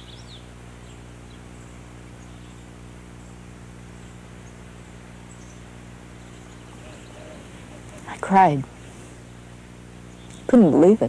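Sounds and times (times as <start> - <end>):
videotape hum and hiss: 0.0 - 11.0.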